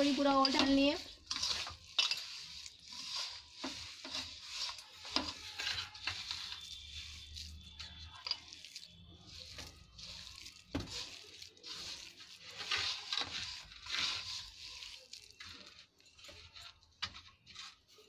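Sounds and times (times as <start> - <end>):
hand kneading gritty dough: 0.0 - 18.0.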